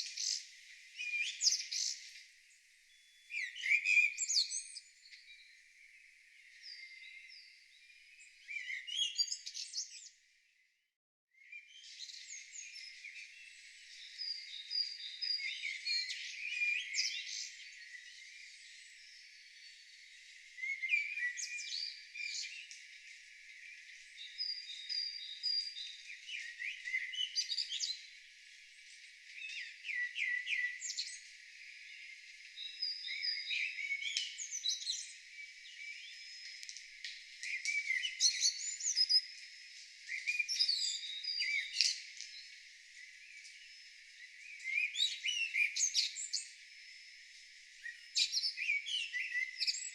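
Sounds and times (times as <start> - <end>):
songbirds singing: 0.0 - 49.9.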